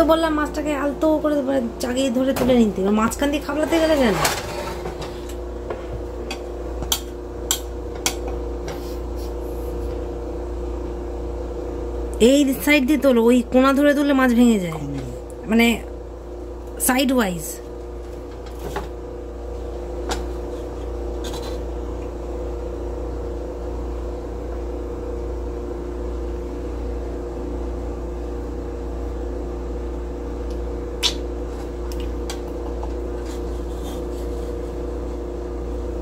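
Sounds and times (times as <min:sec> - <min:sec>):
appliance hum: 0:00.0 - 0:36.0.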